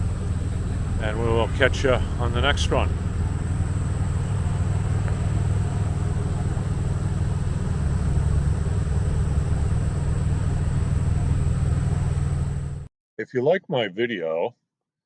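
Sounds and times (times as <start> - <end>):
thin high whine: 0.0 - 12.9
truck engine idling: 0.0 - 12.9.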